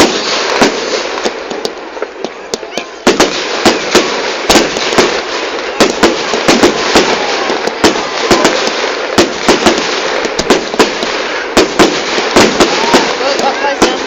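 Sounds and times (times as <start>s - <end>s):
fireworks bangs: 0.0s - 14.0s
fireworks crackle: 0.0s - 14.0s.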